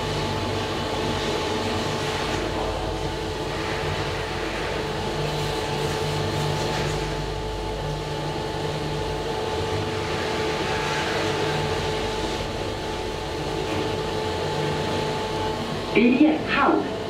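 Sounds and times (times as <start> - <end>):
elevator car humming and whining: 0.0 - 17.0.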